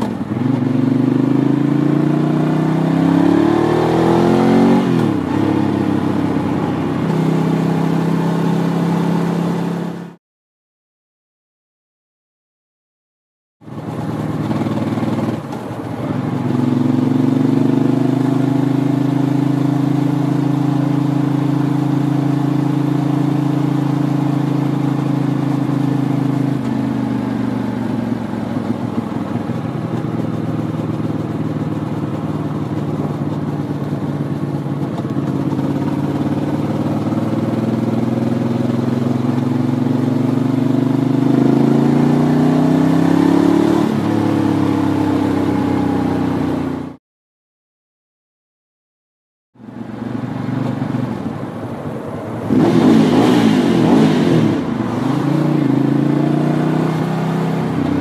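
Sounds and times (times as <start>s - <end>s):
motorcycle engine running: 0.0s - 10.2s, 13.6s - 47.0s, 49.6s - 58.0s.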